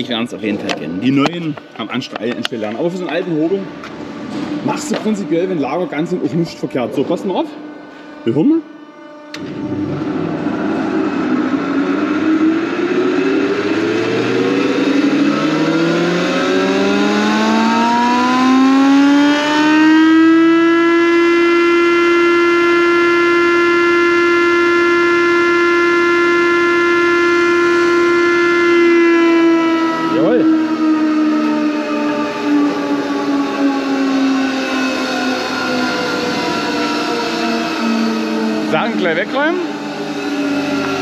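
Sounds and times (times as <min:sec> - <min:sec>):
thickness planer motor whine: 0:00.0 - 0:41.0.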